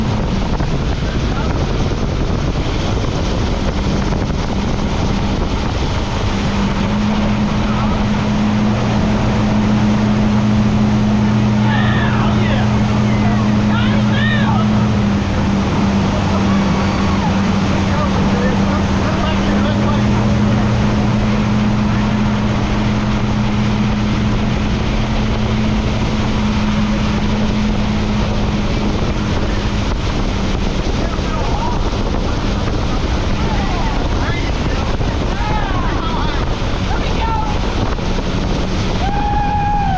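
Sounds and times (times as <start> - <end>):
motorboat engine running: 0.0 - 39.9
wind noise on microphone: 0.0 - 39.9.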